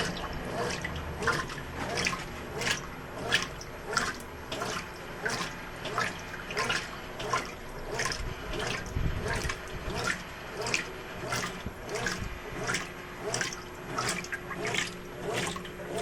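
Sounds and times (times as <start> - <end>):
low motor hum: 0.0 - 16.0
washing machine water sloshing: 0.0 - 16.0.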